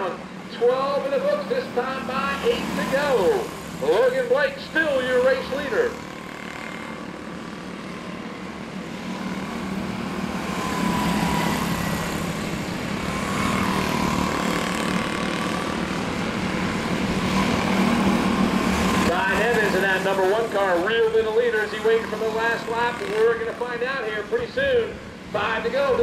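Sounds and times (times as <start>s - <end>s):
small race car engines buzzing: 0.0s - 26.0s.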